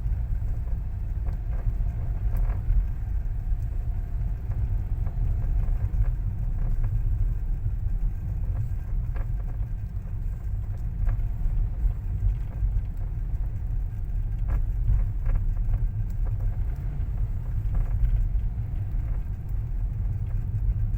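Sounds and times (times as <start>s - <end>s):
car rumble from inside: 0.0s - 20.9s.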